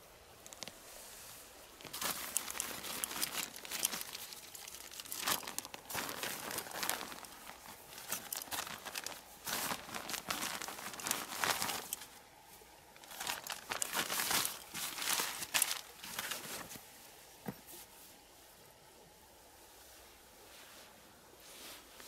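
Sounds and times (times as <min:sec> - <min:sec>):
crinkling and crackling rustle: 0:00.0 - 0:18.2.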